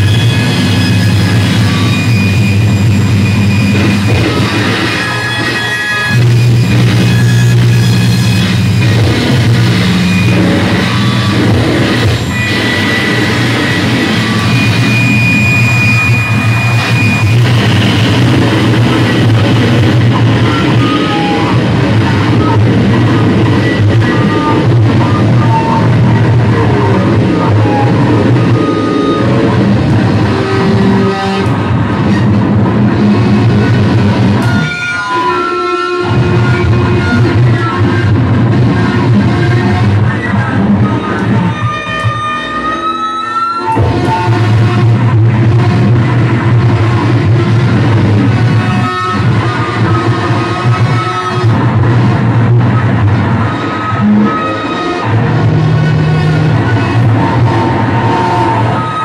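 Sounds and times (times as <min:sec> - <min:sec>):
electric guitars droning: 0:00.0 - 0:59.0
high guitar tones: 0:00.0 - 0:59.0.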